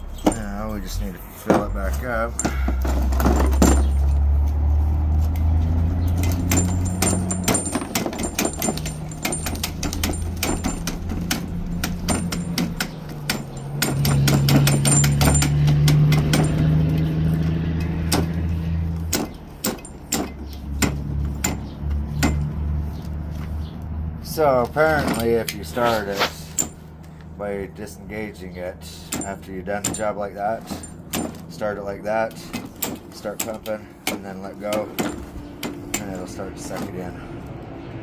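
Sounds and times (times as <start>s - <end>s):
sharp clicks and knocks: 0.0s - 23.9s, 29.0s - 31.7s, 32.3s - 37.1s.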